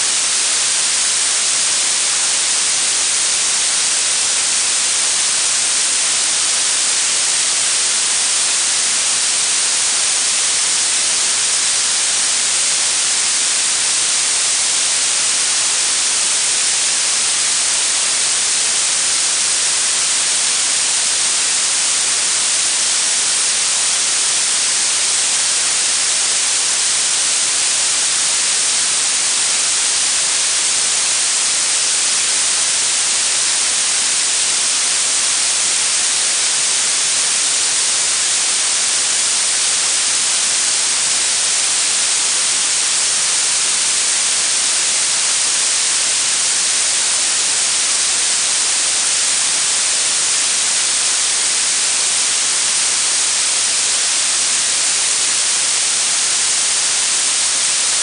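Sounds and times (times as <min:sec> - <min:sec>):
high-pitched noise hiss: 0:00.0 - 0:58.0.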